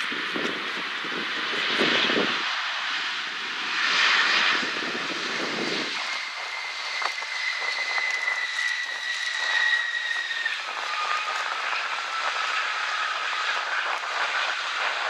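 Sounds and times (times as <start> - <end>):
high engine whine: 0.0 - 15.0
jet engines rushing: 0.0 - 15.0.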